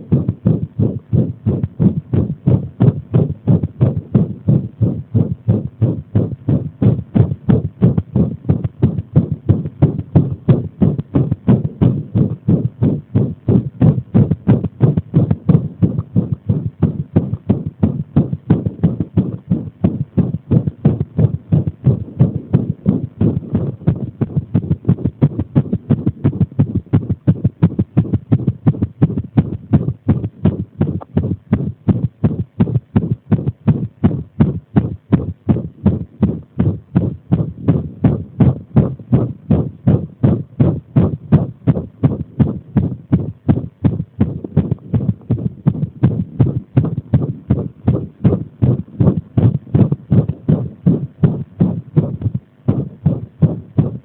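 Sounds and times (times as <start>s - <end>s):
heartbeat thumps: 0.0s - 54.0s.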